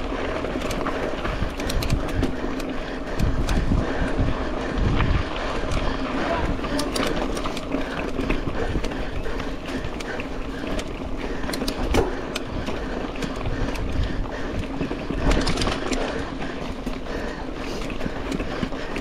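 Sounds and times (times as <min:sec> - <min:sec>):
bike clicks and rattles: 0:00.0 - 0:19.0
bike tyres on dirt: 0:00.0 - 0:19.0.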